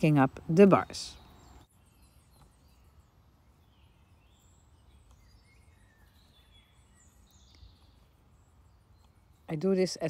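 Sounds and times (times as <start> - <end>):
faint bird chirps: 0.7 - 10.0.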